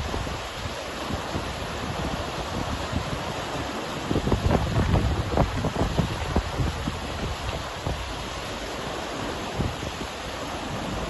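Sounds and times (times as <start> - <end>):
shallow river rushing: 0.0 - 11.0
wind buffeting microphone: 0.0 - 11.0.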